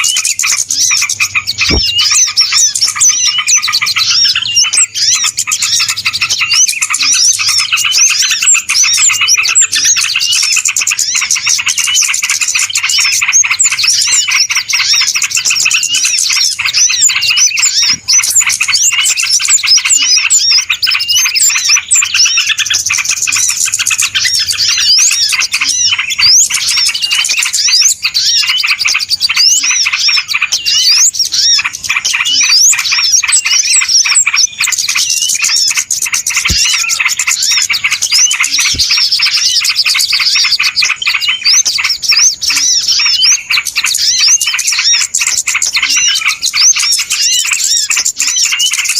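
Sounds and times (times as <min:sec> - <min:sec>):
small birds chirping in chorus: 0:00.0 - 0:48.9.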